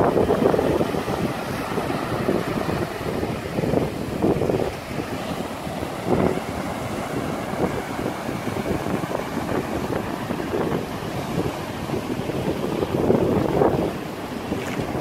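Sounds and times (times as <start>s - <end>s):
surf washing over sand: 0.0s - 15.0s
wind buffeting microphone: 0.0s - 15.0s.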